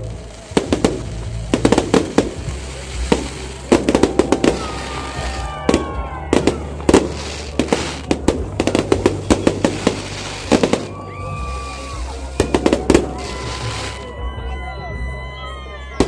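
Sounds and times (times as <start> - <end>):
fireworks bangs and crackles: 0.0 - 16.0
fireworks whistles falling in pitch: 0.5 - 16.0.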